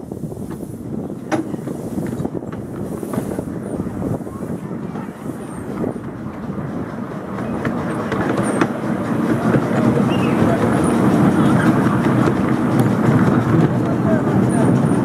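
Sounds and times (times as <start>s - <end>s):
train coaches rumbling on track: 0.0s - 15.0s
wheels clicking on rails: 0.0s - 15.0s.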